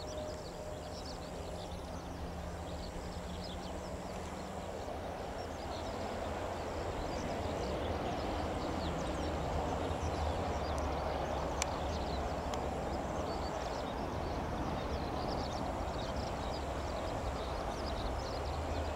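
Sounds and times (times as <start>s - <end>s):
jet engines running at low power: 0.0s - 18.9s
small birds chirping: 0.0s - 18.9s.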